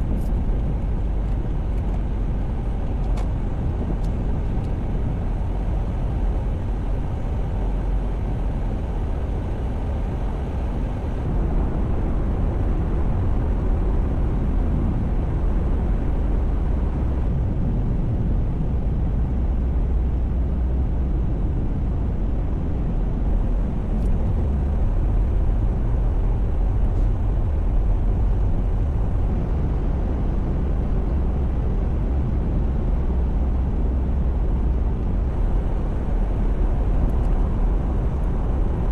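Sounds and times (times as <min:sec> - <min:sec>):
car road and engine noise: 0:00.0 - 0:38.9.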